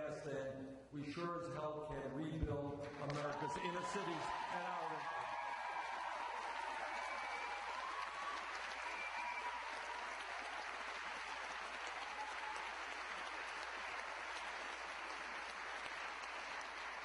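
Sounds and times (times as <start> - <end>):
crowd applauding: 2.9 - 17.0
people cheering: 3.0 - 17.0.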